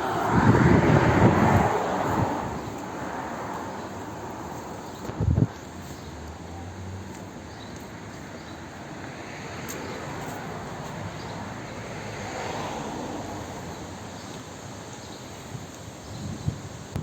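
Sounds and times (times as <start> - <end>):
distant road traffic: 0.0 - 17.0
wind: 0.0 - 17.0.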